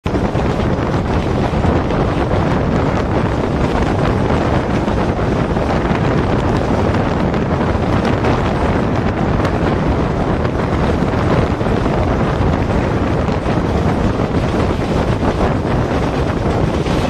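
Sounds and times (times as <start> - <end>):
train running on rails: 0.0 - 17.0
wind buffeting microphone: 0.0 - 17.0.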